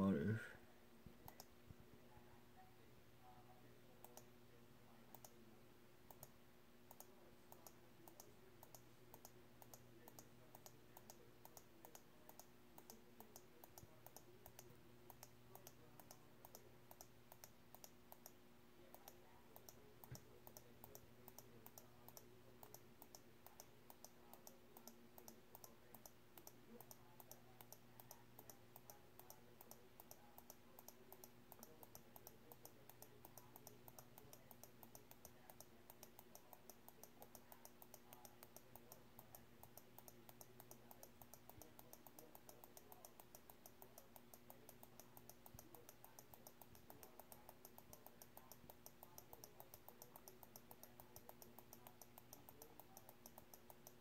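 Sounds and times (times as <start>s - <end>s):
low electrical hum: 0.0s - 54.0s
computer mouse clicks: 1.2s - 1.5s, 4.0s - 4.3s, 5.1s - 5.4s, 6.1s - 54.0s.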